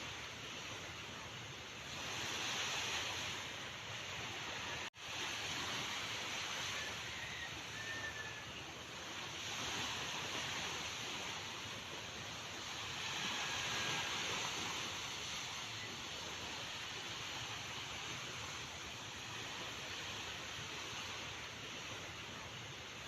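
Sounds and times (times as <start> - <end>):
sea waves washing in: 0.0 - 23.0.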